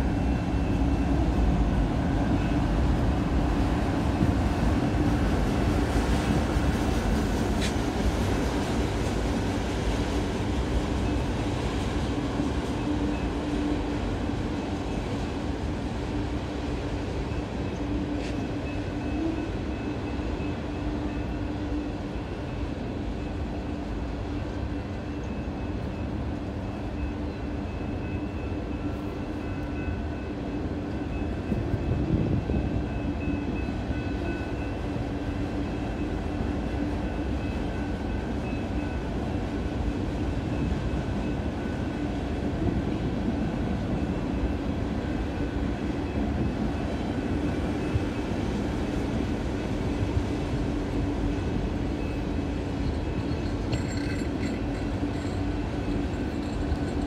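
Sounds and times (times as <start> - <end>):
distant freight train rumbling: 0.0 - 57.0.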